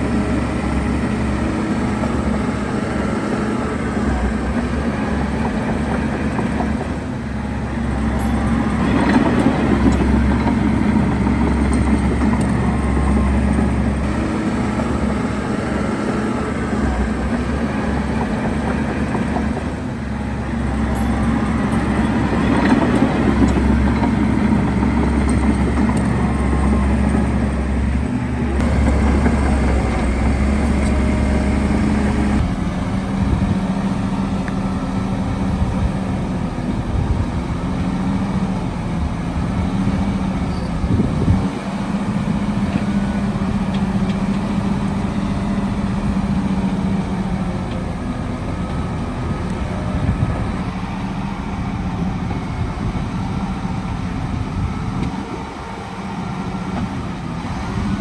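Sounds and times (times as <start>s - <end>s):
diesel machinery engine hum: 0.0s - 58.0s.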